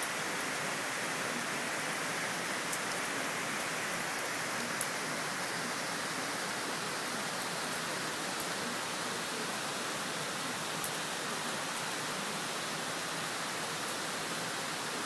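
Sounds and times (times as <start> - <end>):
heavy rain on foliage: 0.0 - 15.0.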